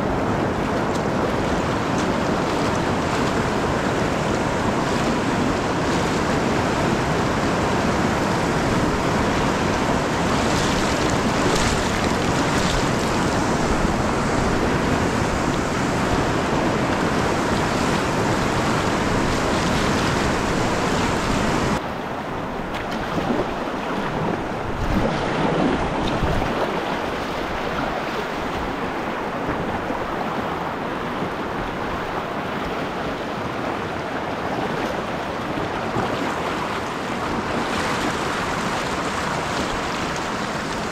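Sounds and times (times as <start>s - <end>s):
whitewater rapids rushing: 0.0s - 40.9s.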